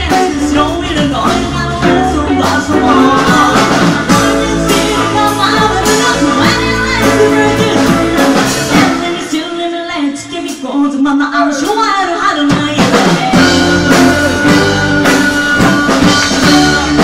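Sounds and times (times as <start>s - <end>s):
electric guitars: 0.0s - 9.5s, 12.8s - 17.0s
drum kit: 0.0s - 17.0s.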